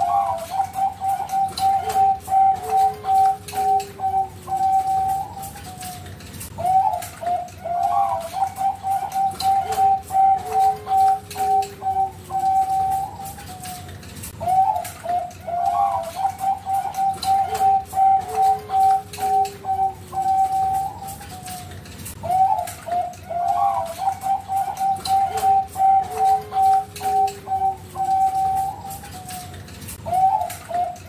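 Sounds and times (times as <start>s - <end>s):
dove cooing song: 0.0s - 31.0s.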